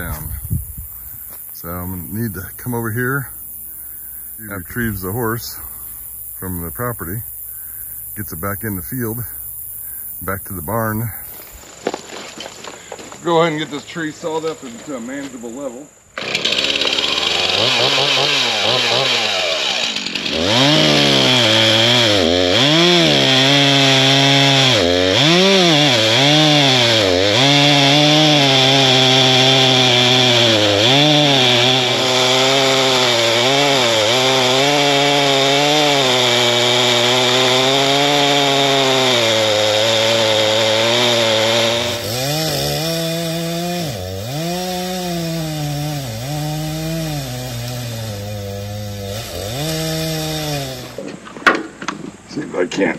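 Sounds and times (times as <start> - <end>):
chainsaw cutting wood: 0.0 - 13.2, 14.7 - 52.2.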